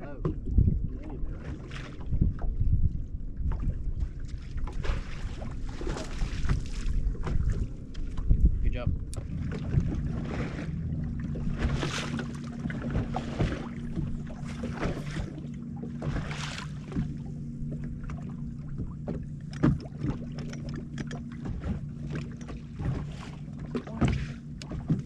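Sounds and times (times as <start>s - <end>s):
small waves slapping a boat hull: 0.0s - 25.0s.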